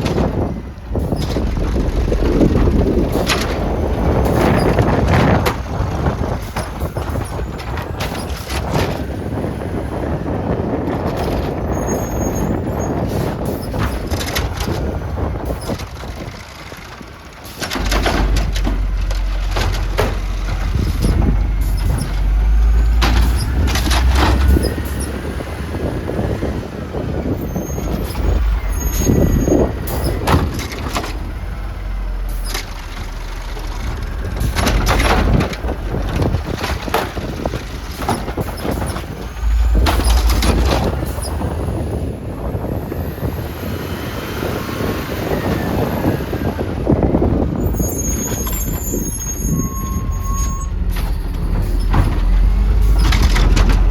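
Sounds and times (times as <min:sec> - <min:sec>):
garbage truck engine running: 0:00.0 - 0:53.9
wind rumbling on microphone: 0:00.0 - 0:53.9.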